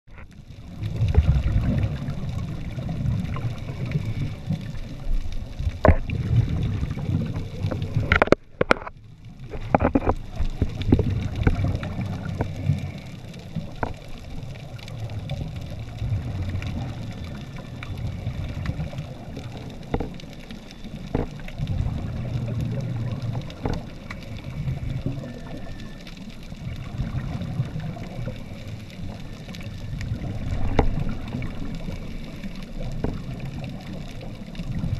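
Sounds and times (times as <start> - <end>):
muffled underwater rumble: 0.1 - 34.9
regulator exhaust bubbles: 0.1 - 34.9
small clicks: 0.1 - 34.9.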